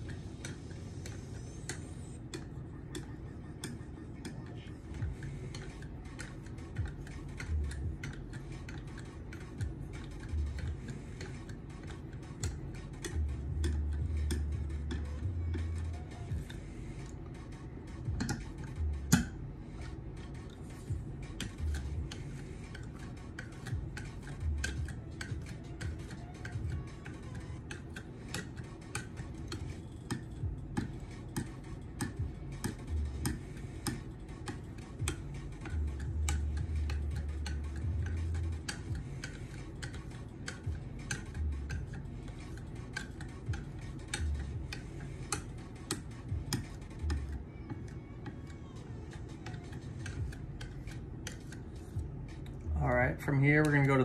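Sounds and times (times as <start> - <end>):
sharpener stroking knife edge: 0.1 - 17.2, 18.2 - 52.7.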